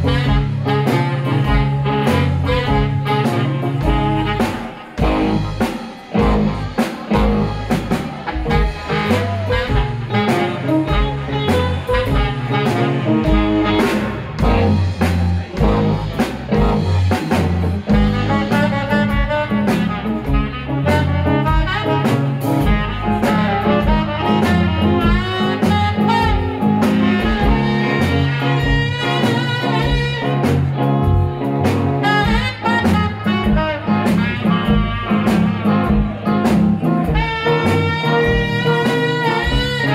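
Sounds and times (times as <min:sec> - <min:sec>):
bass guitar: 0:00.0 - 0:39.9
electric guitar: 0:00.0 - 0:39.9
saxophone lead: 0:00.0 - 0:39.9
steady drum beat: 0:00.0 - 0:39.9.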